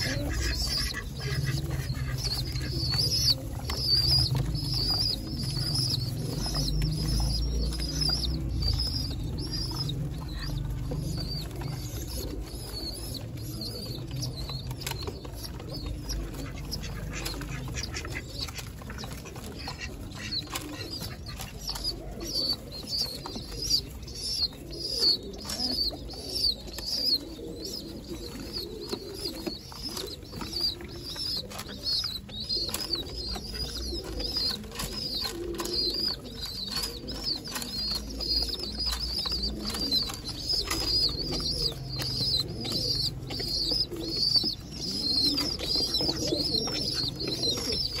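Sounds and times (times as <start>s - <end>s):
pigeons cooing: 0.0s - 48.0s
squabs squeaking: 0.0s - 48.0s.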